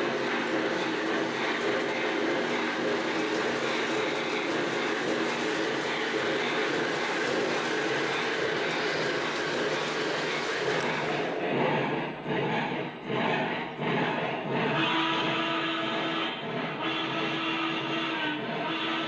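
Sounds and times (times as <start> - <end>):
model train wheels rumbling on track: 0.0 - 19.0.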